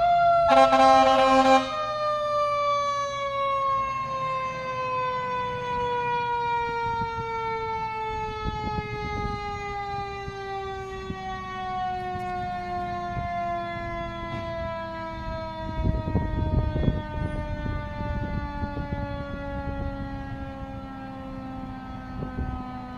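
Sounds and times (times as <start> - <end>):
mechanical siren winding down: 0.0 - 22.9.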